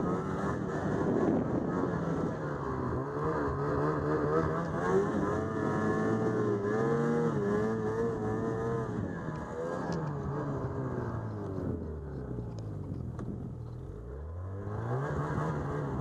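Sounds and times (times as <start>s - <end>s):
snowmobile engine revving: 0.0s - 11.4s, 14.5s - 16.0s.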